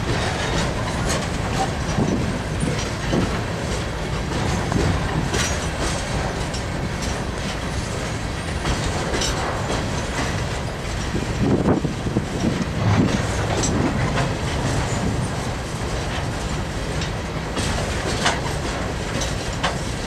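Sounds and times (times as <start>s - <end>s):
freight train rumble: 0.0s - 20.0s
train wheels clattering over rail joints: 0.0s - 20.0s.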